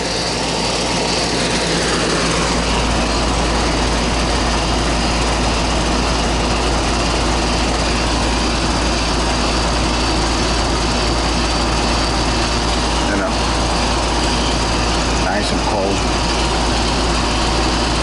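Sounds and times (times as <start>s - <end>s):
air conditioner unit drone: 0.0s - 18.0s.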